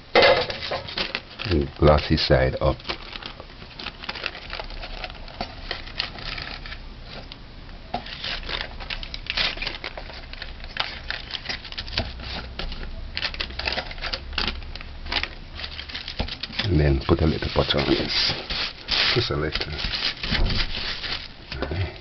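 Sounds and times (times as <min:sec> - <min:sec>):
paper rustling and crinkling: 0:00.2 - 0:07.3, 0:08.0 - 0:22.0.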